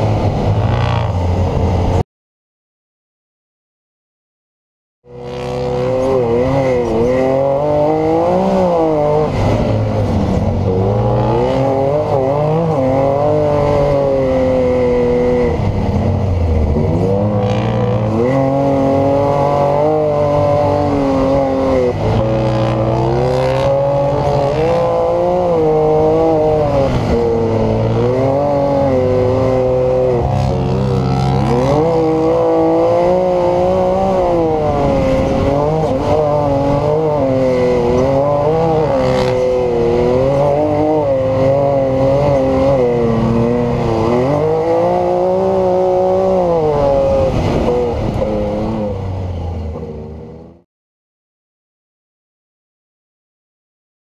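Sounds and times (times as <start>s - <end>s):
engine revving hard: 5.1s - 49.0s.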